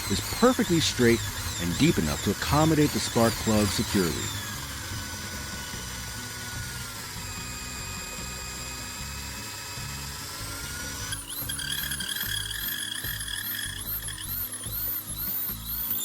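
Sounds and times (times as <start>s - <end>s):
electric drill boring into wood: 0.0s - 16.0s.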